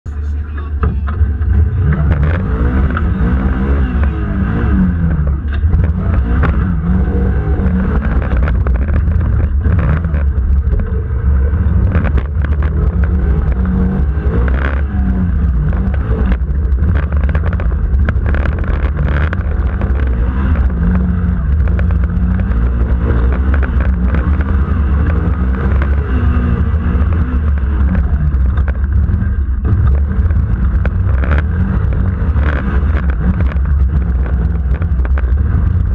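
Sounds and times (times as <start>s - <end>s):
off-road vehicle engine revving: 0.1s - 35.9s.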